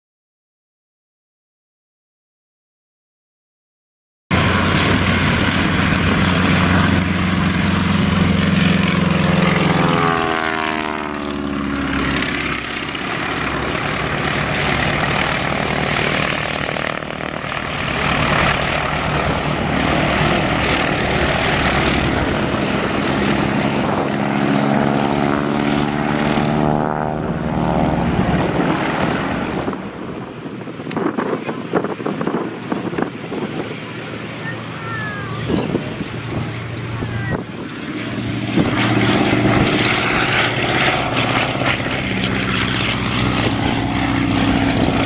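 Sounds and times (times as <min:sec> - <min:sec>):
propeller plane engine running: 0:04.3 - 0:45.0.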